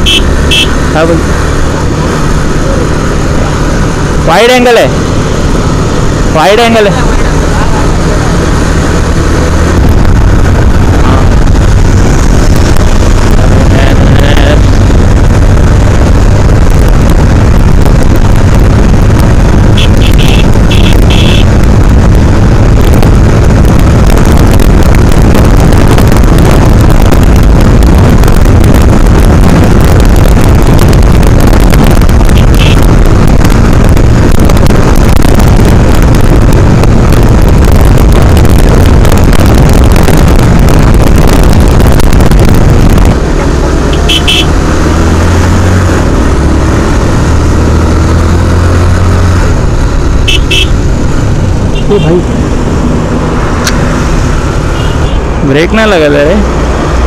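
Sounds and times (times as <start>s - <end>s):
motorcycle engine: 0.0s - 57.0s
wind rushing over microphone: 0.0s - 57.0s.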